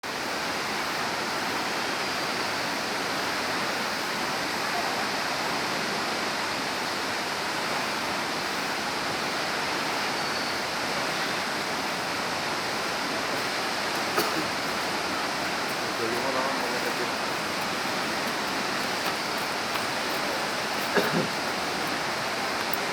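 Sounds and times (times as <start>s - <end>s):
waterfall rushing: 0.1s - 22.9s.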